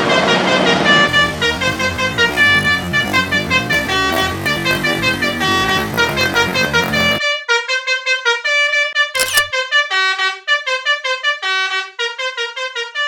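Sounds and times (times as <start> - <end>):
multi-tone bus horn melody: 0.0 - 9.3, 10.0 - 13.0.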